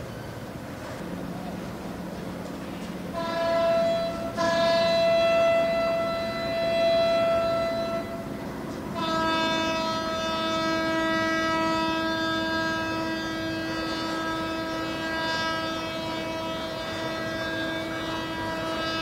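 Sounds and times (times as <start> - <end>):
outboard motor whine: 0.0 - 19.0.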